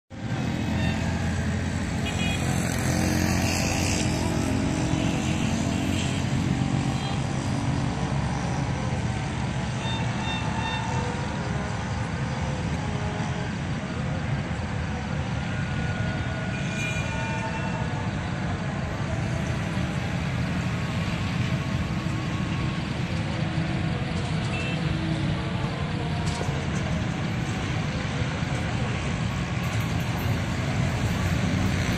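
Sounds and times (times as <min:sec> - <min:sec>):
locomotive engine rumble: 0:00.1 - 0:31.9
town traffic hum: 0:00.1 - 0:31.9.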